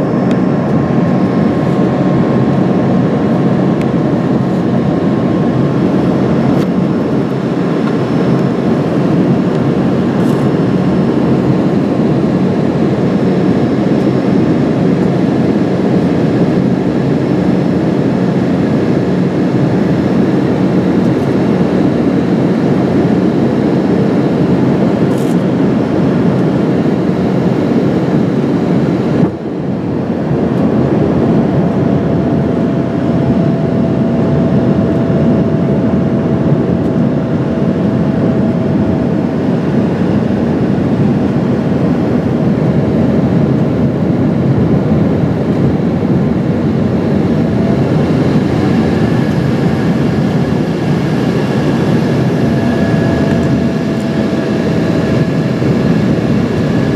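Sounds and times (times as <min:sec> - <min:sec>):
airplane cabin roar: 0:00.0 - 0:56.9
faint steady whine: 0:00.0 - 0:56.9.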